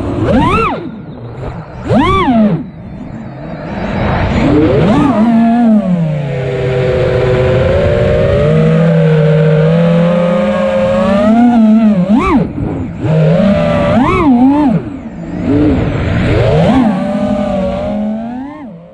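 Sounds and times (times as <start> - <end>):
wind rush on microphone: 0.0 - 18.7
drone motors whining: 0.0 - 18.9.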